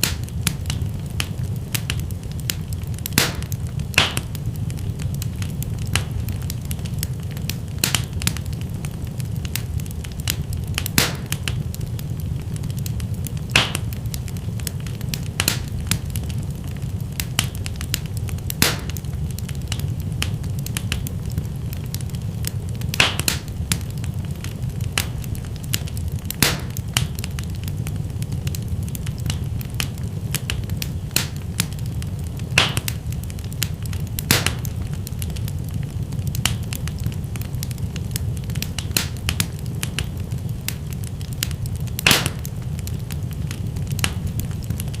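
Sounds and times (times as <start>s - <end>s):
fire crackles and pops: 0.0s - 45.0s
wood fire rumbling: 0.0s - 45.0s.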